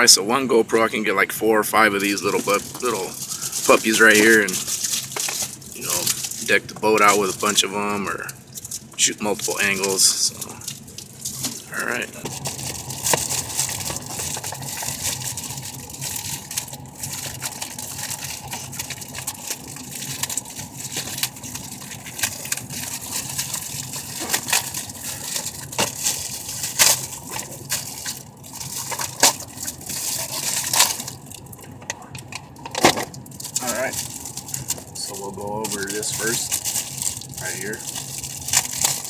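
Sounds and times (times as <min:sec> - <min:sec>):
packaging crinkling and rustling: 0:01.7 - 0:39.0.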